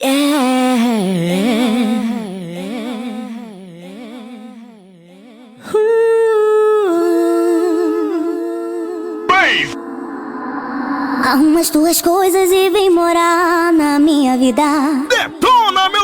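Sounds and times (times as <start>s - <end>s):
ornamented vocal line: 0.0s - 16.0s.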